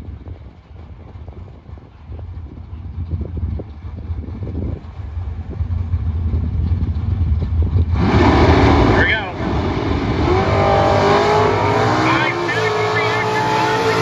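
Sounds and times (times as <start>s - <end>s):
drag cars idling: 0.0s - 14.0s.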